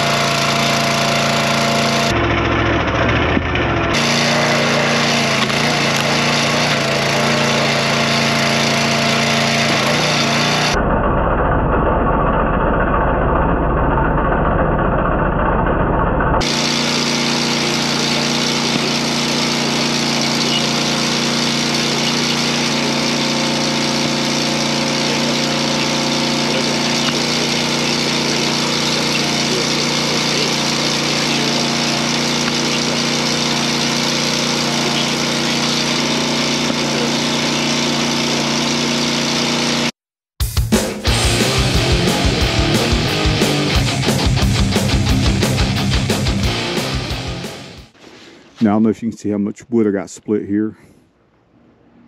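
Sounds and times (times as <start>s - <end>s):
small gas engine running: 0.0s - 40.0s, 41.0s - 48.5s.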